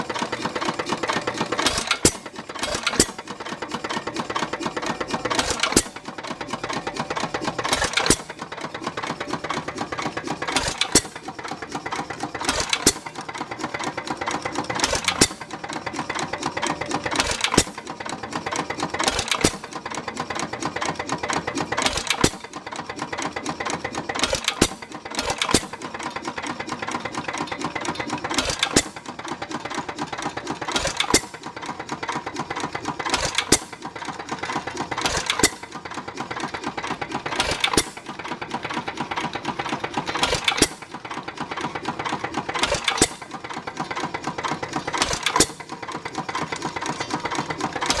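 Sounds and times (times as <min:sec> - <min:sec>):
fast mechanical clatter: 0:00.0 - 0:48.0.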